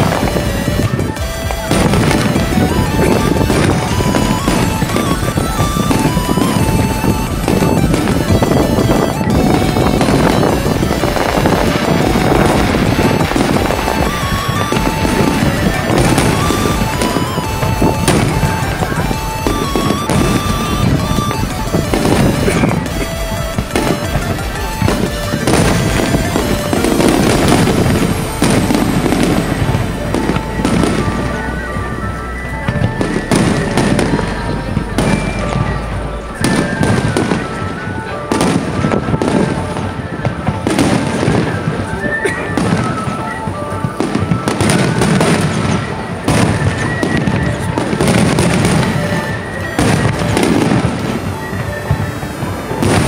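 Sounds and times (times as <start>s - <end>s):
firework booms: 0.0s - 53.0s
firework crackling: 0.0s - 53.0s
music playing: 0.0s - 53.0s.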